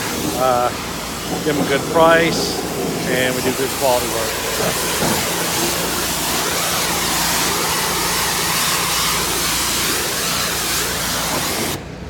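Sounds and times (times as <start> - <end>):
high-pressure water spray hissing: 0.0 - 11.8
pressure washer engine hum: 0.0 - 12.0.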